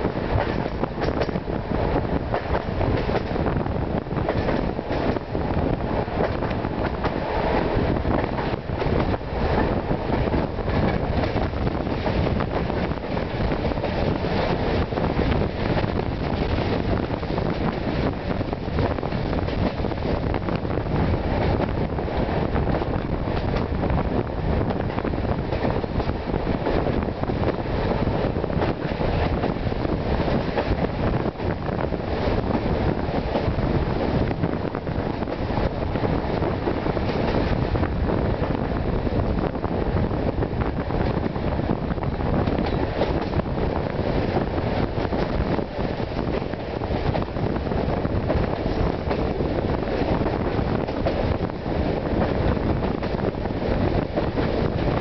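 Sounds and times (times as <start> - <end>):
train rumble: 0.0 - 55.0
wind buffeting microphone: 0.0 - 55.0.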